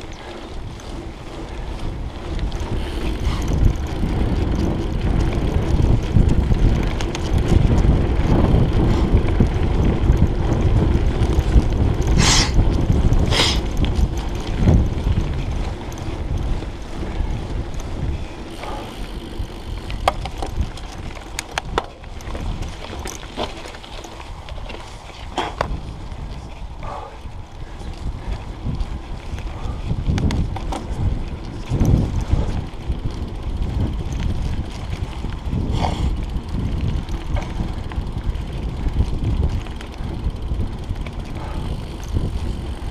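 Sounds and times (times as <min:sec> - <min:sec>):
tyres rolling over dirt: 0:00.0 - 0:26.5, 0:27.9 - 0:42.9
bike clicks and rattles: 0:00.0 - 0:42.9
wind buffeting microphone: 0:00.0 - 0:42.9.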